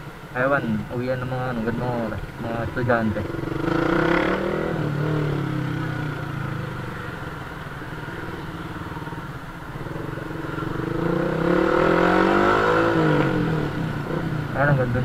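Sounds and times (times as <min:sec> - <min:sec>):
motorbike engine: 0:02.8 - 0:15.0.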